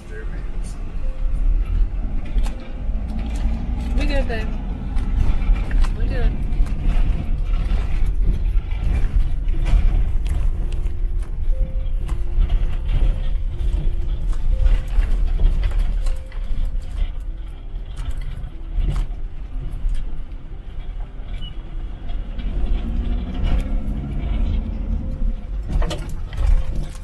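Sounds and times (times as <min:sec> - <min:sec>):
van engine and road rumble: 0:00.0 - 0:27.0
rattles and knocks of van body: 0:01.2 - 0:27.0.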